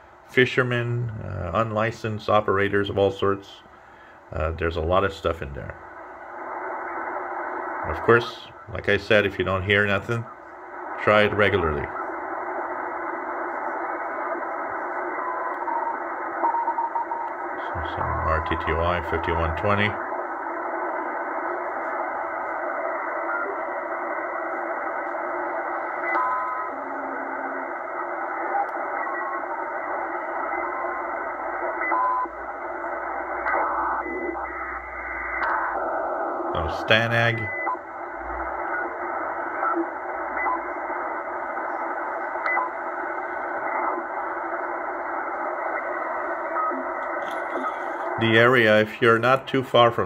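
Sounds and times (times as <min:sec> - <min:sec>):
radio static hiss: 0:00.0 - 0:50.0.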